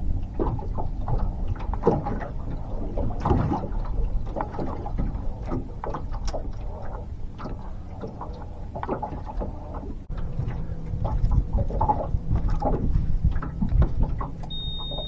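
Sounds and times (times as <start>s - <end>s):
low rumble: 0.0s - 15.0s
water lapping against boat hull: 0.0s - 15.0s.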